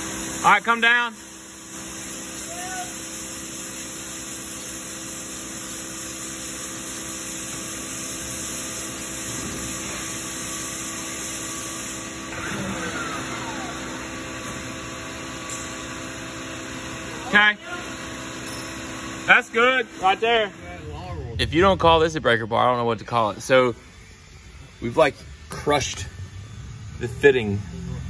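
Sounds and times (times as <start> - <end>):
mechanical hum and hiss: 0.0 - 28.0.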